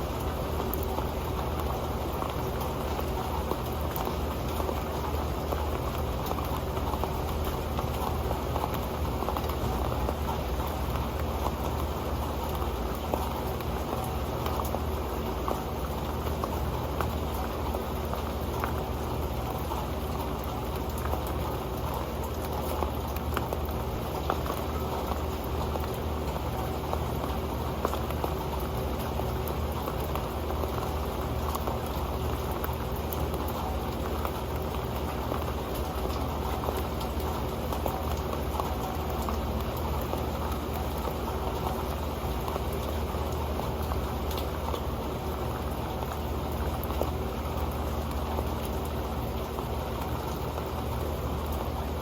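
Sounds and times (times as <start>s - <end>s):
rain hiss: 0.0s - 52.0s
raindrops ticking on metal: 0.0s - 52.0s.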